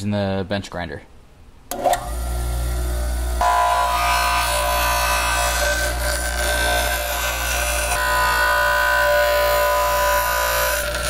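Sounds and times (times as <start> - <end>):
bench grinder humming and whining: 1.8 - 11.0.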